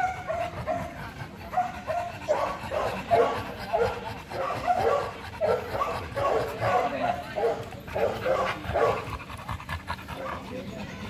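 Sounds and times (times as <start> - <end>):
dog barking: 0.0 - 9.1.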